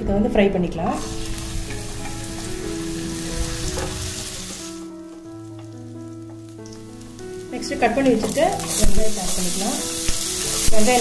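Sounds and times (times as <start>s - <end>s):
soft background music: 0.0s - 11.0s
garlic sizzling in hot oil: 1.0s - 11.0s.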